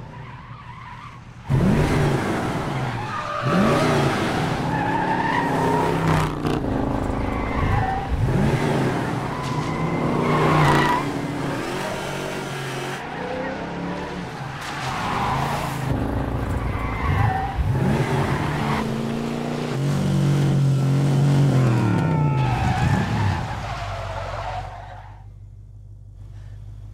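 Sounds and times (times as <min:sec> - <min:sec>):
car engine revving: 0:01.5 - 0:24.2.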